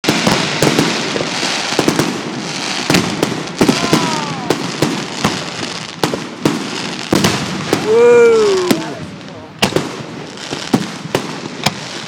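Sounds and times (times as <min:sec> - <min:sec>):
firework crackle: 0:00.0 - 0:12.0
firework shells bursting: 0:00.0 - 0:12.0.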